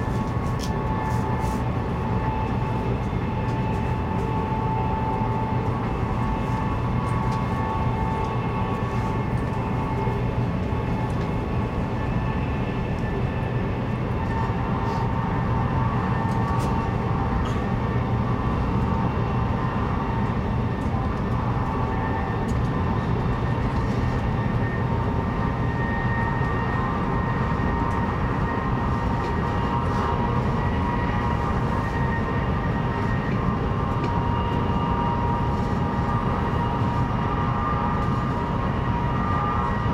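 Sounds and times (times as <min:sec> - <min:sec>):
train running gear rumble: 0:00.0 - 0:39.9.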